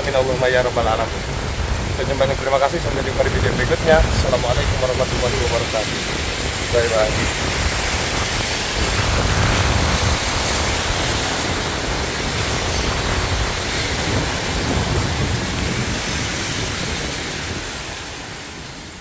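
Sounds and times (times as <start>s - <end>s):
strong wind on microphone: 0.0s - 19.0s.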